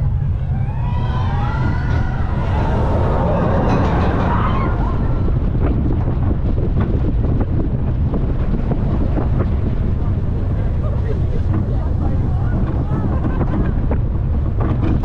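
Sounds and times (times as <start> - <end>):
roller coaster rumbling on track: 0.0 - 15.0
track clacks: 0.0 - 15.0
wind buffeting microphone: 0.0 - 15.0.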